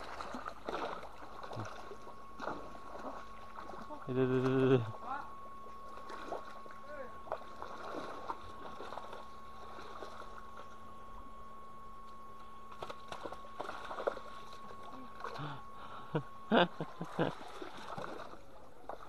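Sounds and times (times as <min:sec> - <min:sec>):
water splashing and sloshing: 0:00.0 - 0:11.1, 0:12.0 - 0:15.6, 0:16.7 - 0:19.0
faint hum: 0:00.0 - 0:19.0.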